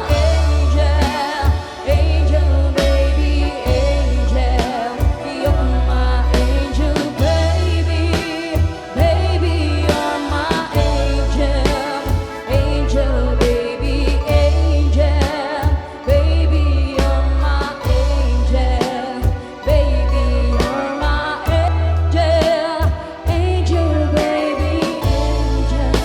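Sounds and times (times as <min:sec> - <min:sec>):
pop ballad with wordless singing: 0:00.0 - 0:26.0
pulsing bass line: 0:00.0 - 0:26.0
steady drum beat: 0:00.0 - 0:26.0.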